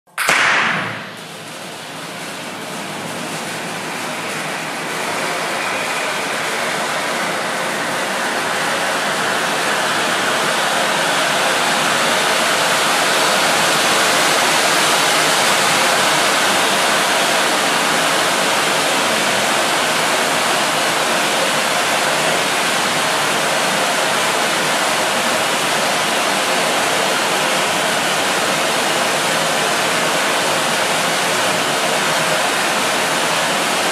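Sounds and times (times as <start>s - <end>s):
firework fountain hissing sparks: 0.3s - 33.9s.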